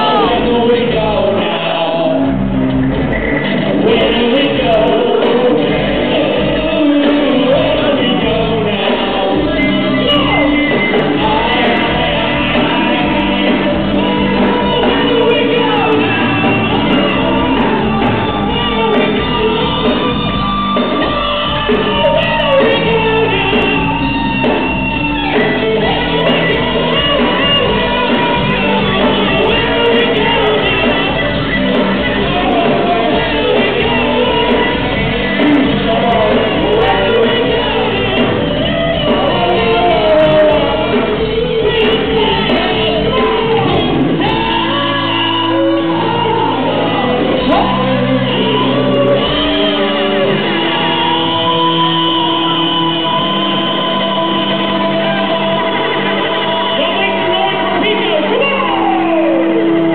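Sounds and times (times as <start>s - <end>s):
crowd shouting and yelling: 0.0s - 59.9s
live rock band with singer: 0.0s - 59.9s.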